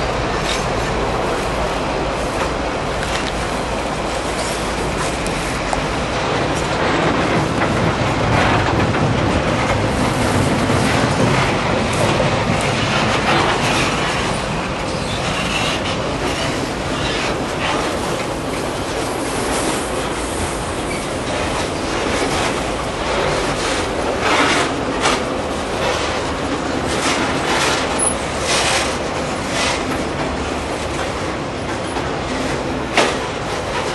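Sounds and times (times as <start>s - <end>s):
freight train rumbling past: 0.0s - 33.9s
wheels clattering over rails: 0.0s - 33.9s.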